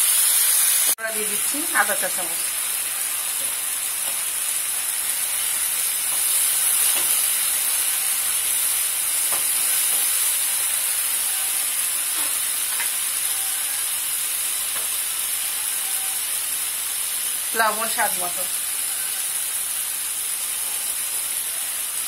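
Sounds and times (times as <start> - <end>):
masala sizzling in a frying pan: 0.0 - 22.0.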